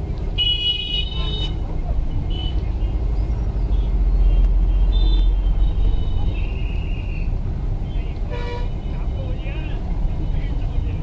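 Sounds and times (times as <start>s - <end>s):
street rumble: 0.0s - 11.0s.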